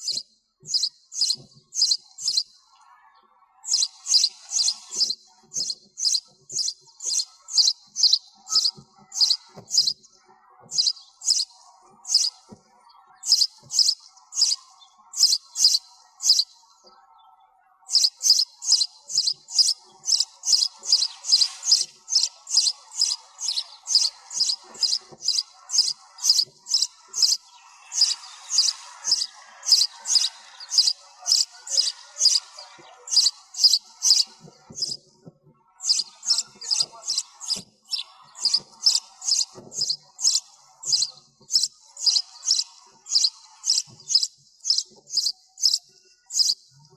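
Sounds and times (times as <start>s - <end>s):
sparrow chirping: 0.0s - 2.5s, 3.6s - 16.7s, 17.8s - 35.0s, 35.7s - 46.9s
faint chirping: 0.0s - 2.7s, 3.6s - 35.0s, 35.7s - 46.9s.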